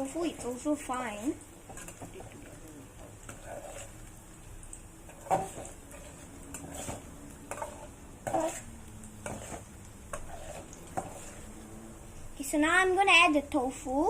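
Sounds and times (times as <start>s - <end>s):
utensil scraping frying pan: 0.0s - 4.4s, 5.0s - 12.4s
onion sizzling in oil: 0.0s - 14.0s.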